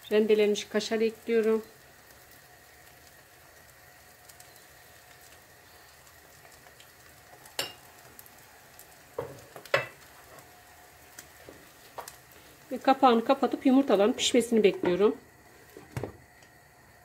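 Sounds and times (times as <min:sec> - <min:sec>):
omelette sizzling in a pan: 0:00.0 - 0:17.0.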